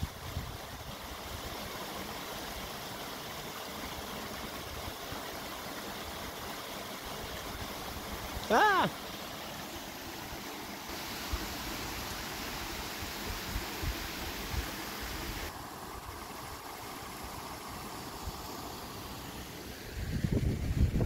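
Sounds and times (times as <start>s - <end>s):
creek water over rocks: 0.0s - 21.0s.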